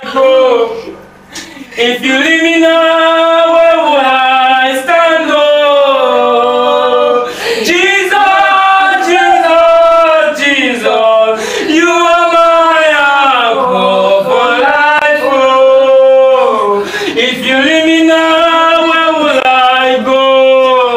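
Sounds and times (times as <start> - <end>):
choir singing gospel song: 1.7 - 20.9.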